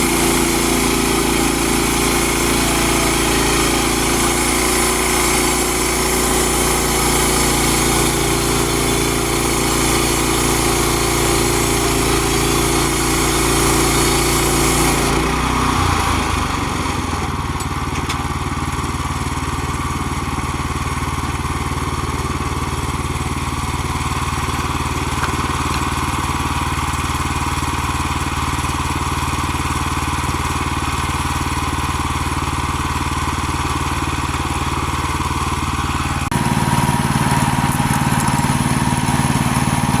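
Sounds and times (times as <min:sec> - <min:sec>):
sawmill gas engine running: 0:00.0 - 0:40.0.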